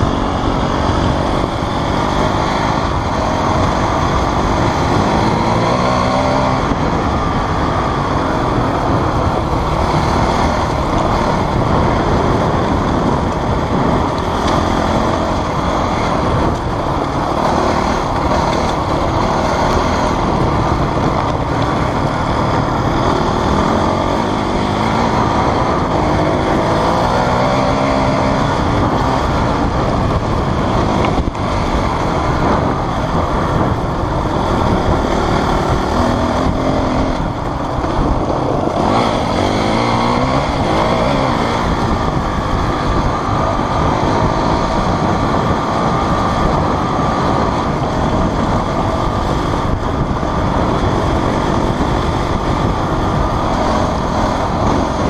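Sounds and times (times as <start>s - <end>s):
motorcycle engine revving: 0.0s - 55.0s
wind and riding noise: 0.0s - 55.0s.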